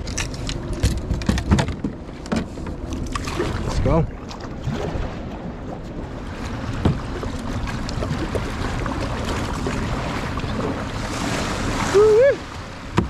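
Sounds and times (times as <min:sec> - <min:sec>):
water wash: 0:00.0 - 0:13.0.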